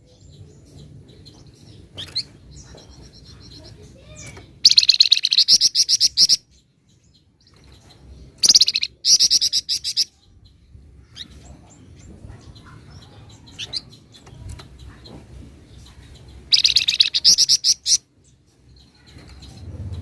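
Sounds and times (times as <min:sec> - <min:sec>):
soft bird chirps: 0:00.0 - 0:20.0
songbird rattling trills: 0:00.3 - 0:06.4, 0:07.4 - 0:10.2, 0:11.1 - 0:20.0.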